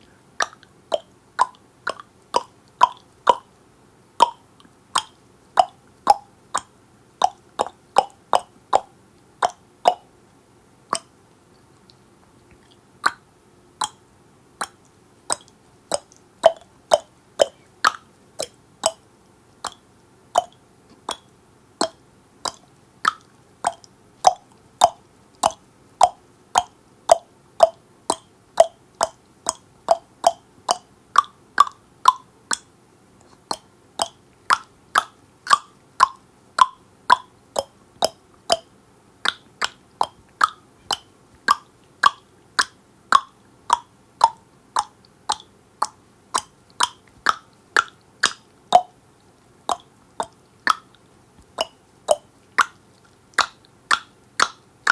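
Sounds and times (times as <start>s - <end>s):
tongue clicking: 0.0s - 3.6s, 4.2s - 10.1s, 10.9s - 54.9s.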